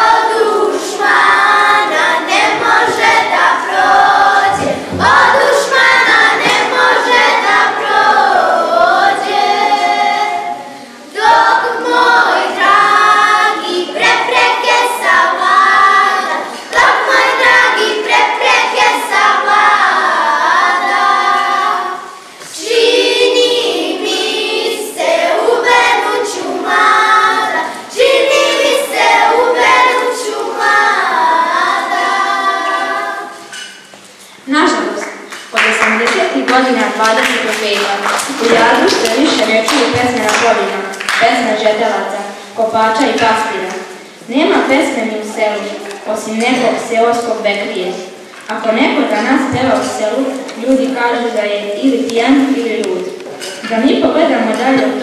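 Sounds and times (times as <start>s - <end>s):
girls singing together: 0.0s - 55.0s.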